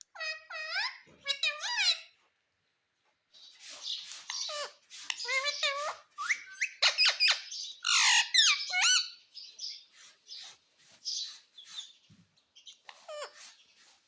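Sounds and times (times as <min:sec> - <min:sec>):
parakeet squawking and chattering: 0:00.0 - 0:02.2, 0:03.4 - 0:12.0, 0:12.6 - 0:13.9.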